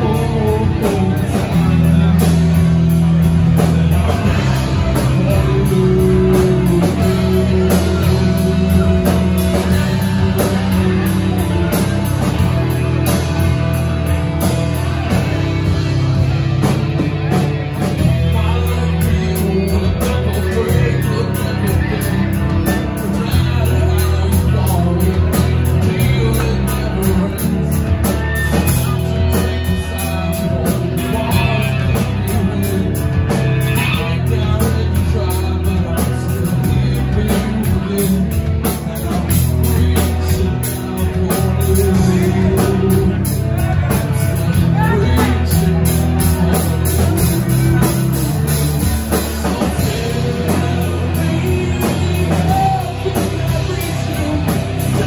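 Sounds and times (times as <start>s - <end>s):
drum kit: 0.0s - 55.0s
electric guitars: 0.0s - 55.0s
person singing: 0.0s - 55.0s.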